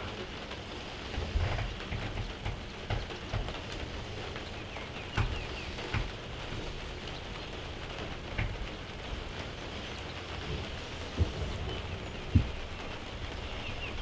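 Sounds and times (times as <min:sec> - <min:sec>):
steady rain falling: 0:00.0 - 0:14.0
drops ticking on a surface: 0:01.2 - 0:14.0.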